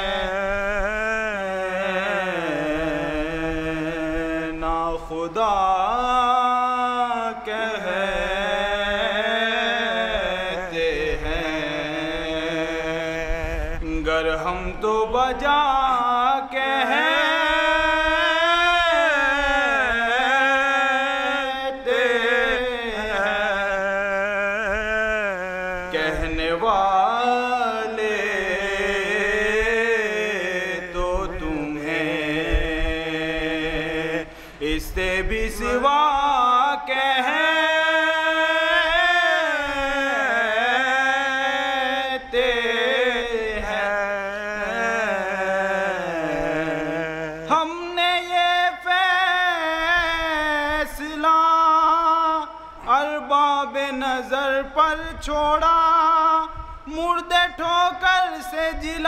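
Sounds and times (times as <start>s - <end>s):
men chanting a lament: 0.0s - 59.0s.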